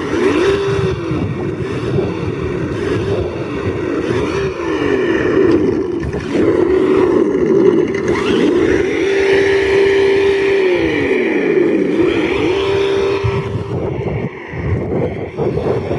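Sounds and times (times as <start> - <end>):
rc crawler engine revving: 0.0 - 15.9.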